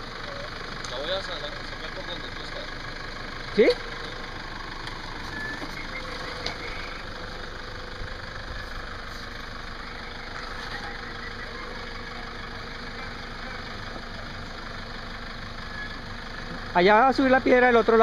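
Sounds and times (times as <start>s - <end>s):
off-road vehicle engine idling: 0.0s - 18.0s.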